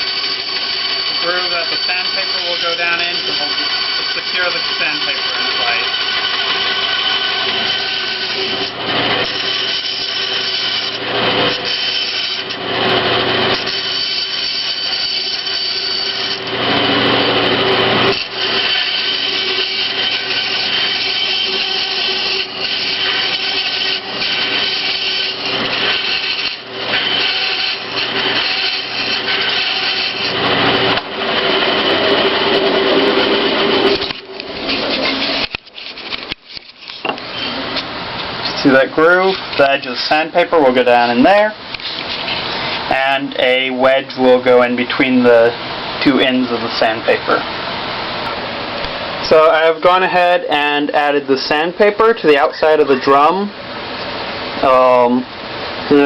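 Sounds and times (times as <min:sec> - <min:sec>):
bandsaw cutting wood: 0:00.0 - 0:47.1.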